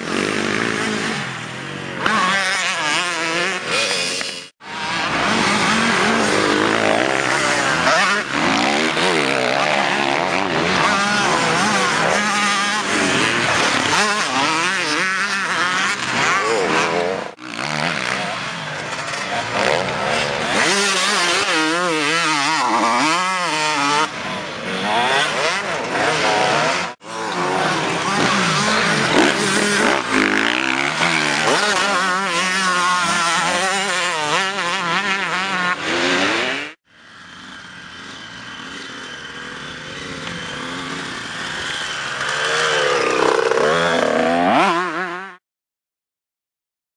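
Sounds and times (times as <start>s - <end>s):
motocross bikes revving: 0.0s - 45.4s.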